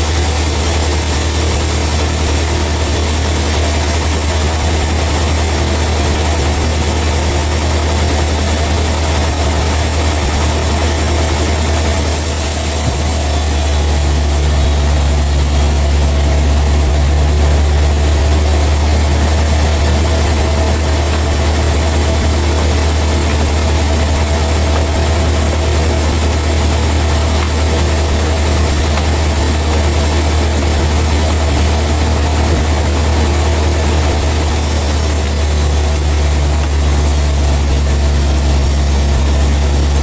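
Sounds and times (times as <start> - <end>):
engine idling: 0.0 - 40.0.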